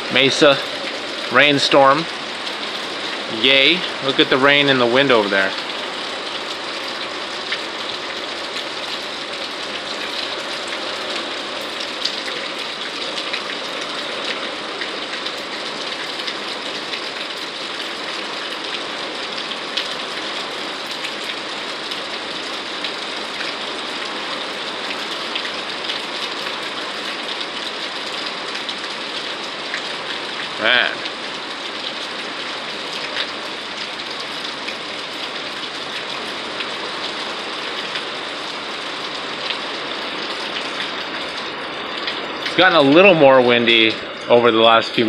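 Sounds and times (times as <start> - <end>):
rain hissing: 0.0 - 45.0
raindrops ticking on surface: 0.0 - 45.0.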